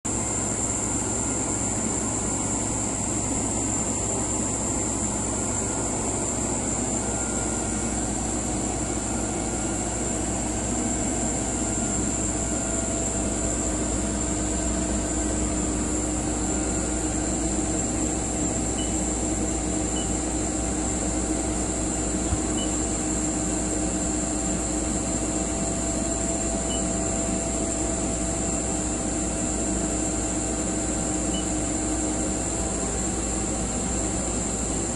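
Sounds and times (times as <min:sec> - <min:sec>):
machinery humming with whine: 0:00.1 - 0:34.9.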